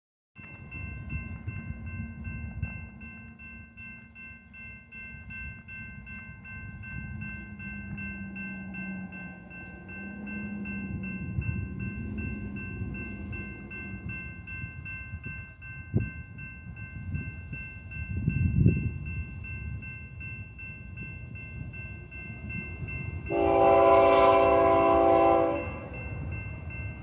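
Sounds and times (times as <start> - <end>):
crossing bell ringing: 0.4 - 27.0.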